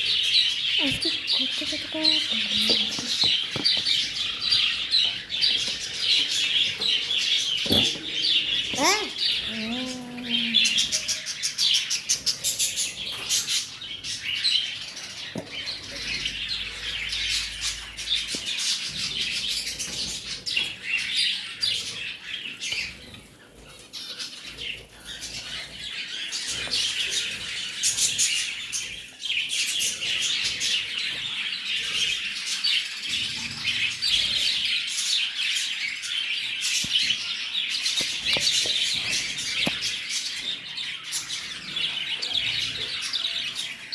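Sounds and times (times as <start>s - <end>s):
lovebirds chirping: 0.0s - 43.9s.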